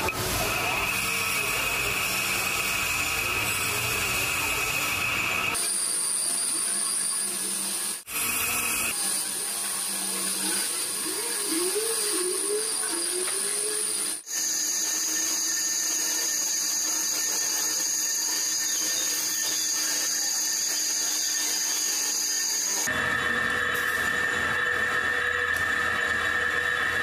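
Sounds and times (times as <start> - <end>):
metal lathe whining: 0.0 - 27.0.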